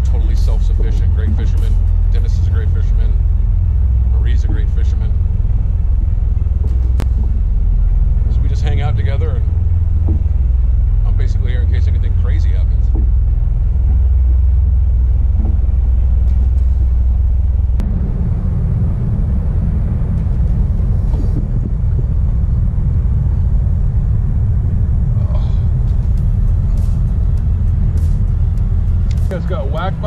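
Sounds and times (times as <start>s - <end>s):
loud low rumble: 0.0s - 30.0s.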